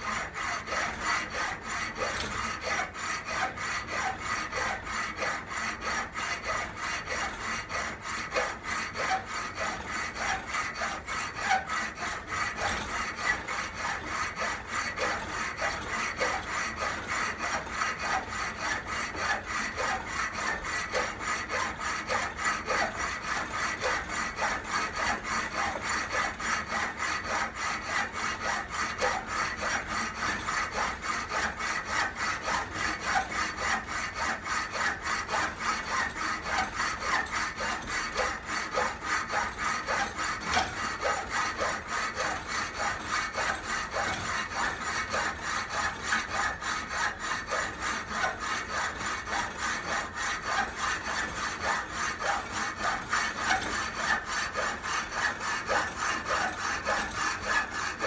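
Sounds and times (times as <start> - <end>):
hacksaw cutting metal: 0.0 - 58.0.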